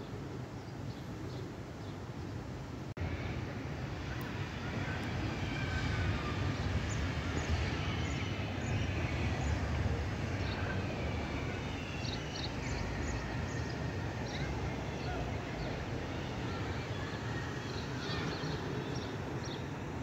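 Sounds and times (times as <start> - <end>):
city background rumble: 0.0 - 20.0.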